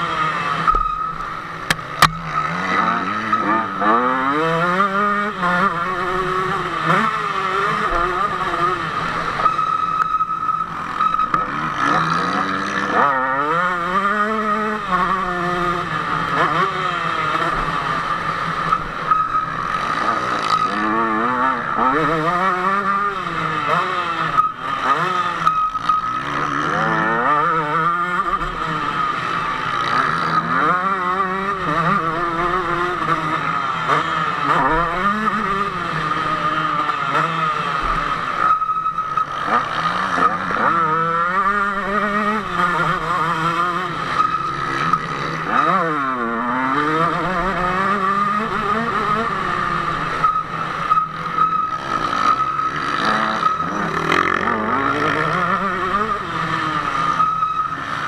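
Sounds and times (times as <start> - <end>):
motocross engine revving: 0.0 - 10.0, 10.7 - 58.0.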